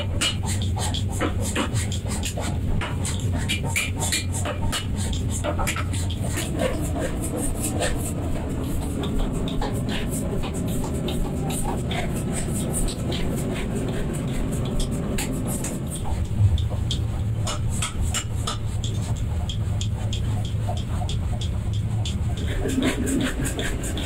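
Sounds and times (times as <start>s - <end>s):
workshop machinery rumbling: 0.0s - 24.0s.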